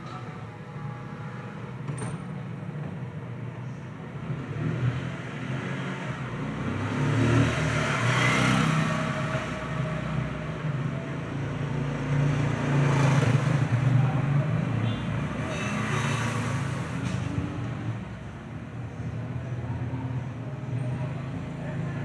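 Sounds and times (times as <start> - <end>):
vehicle passing rush: 4.2 - 22.0.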